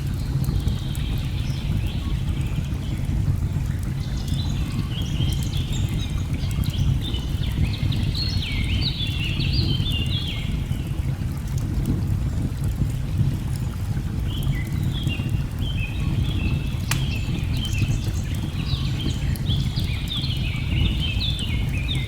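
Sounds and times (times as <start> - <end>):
wood fire crackling: 0.0 - 7.5, 10.8 - 22.0.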